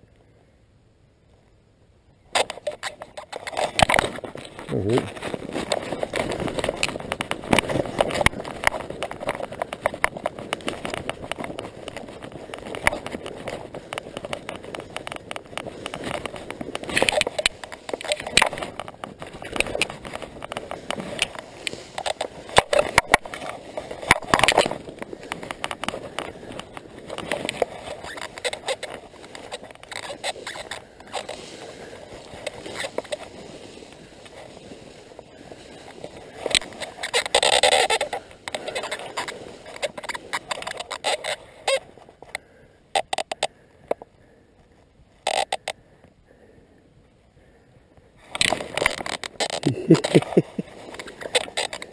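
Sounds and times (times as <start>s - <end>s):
tall grass rustling against microphone: 0.0s - 51.9s.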